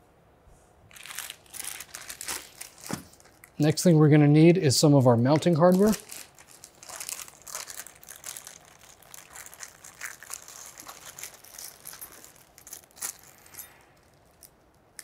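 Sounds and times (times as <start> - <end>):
plastic bags crinkling: 0.9 - 3.9, 4.8 - 15.0.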